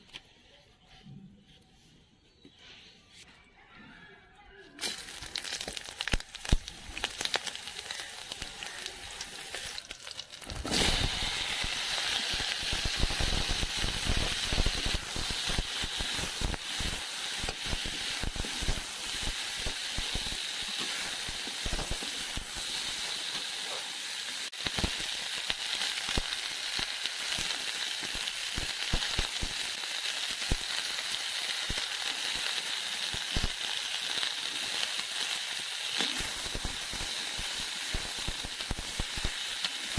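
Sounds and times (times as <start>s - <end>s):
spices crackling in hot oil: 4.8s - 39.9s
vegetables sizzling in oil: 4.8s - 39.9s.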